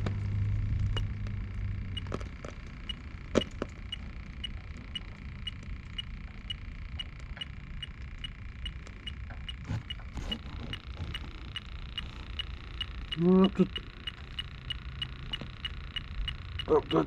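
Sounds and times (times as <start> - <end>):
leak detector beeping: 0.2 - 17.0.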